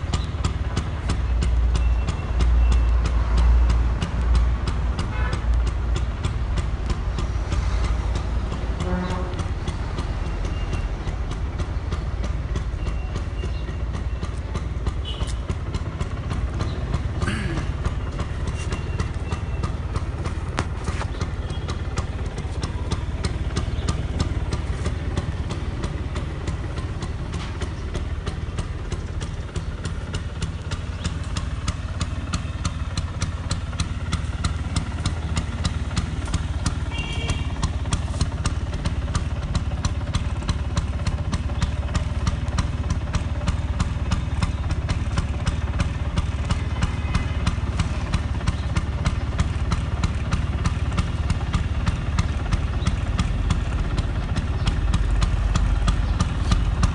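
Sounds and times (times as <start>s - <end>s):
scooter engine idling: 0.0s - 56.9s.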